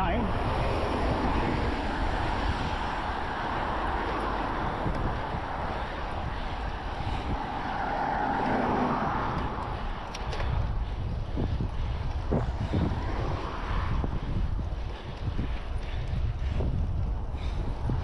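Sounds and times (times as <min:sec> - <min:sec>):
road traffic noise: 0:00.0 - 0:18.0
vehicle passing: 0:00.0 - 0:18.0
wind rumble on microphone: 0:00.0 - 0:18.0.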